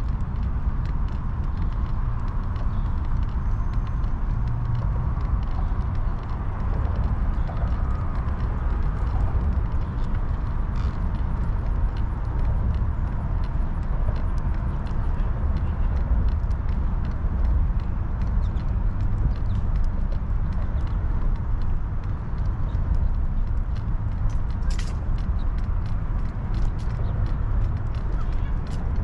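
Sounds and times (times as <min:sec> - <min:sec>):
faint ticks and rattles: 0:00.0 - 0:29.0
wheels rumbling on pavement: 0:00.0 - 0:29.0
wind buffeting microphone: 0:00.0 - 0:29.0.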